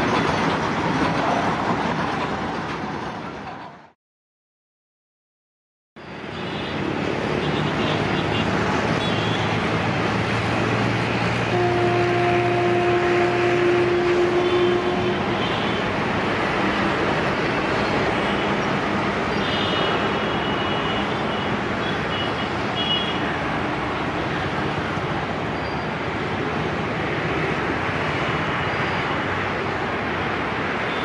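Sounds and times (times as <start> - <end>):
train rumbling on track: 0.0 - 4.0, 6.1 - 31.0.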